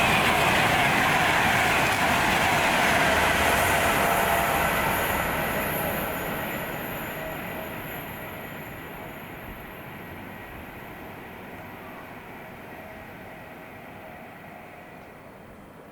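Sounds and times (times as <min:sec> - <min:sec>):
rail noise: 0:00.0 - 0:15.9
train rumbling past: 0:00.0 - 0:15.9.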